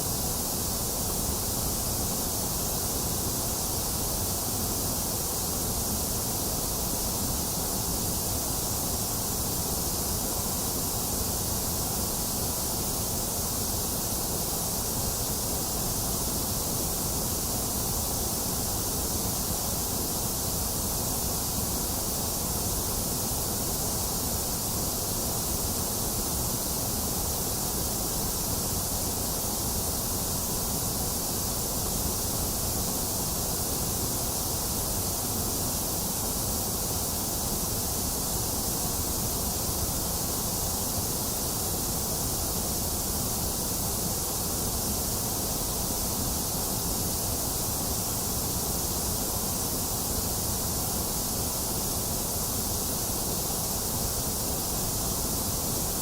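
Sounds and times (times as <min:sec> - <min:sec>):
electronic white noise hiss: 0:00.0 - 0:56.0.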